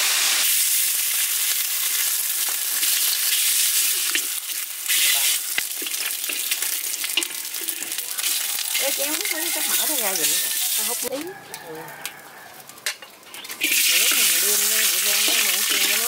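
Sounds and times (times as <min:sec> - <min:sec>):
pork fat sizzling in a wok: 0:00.0 - 0:16.0.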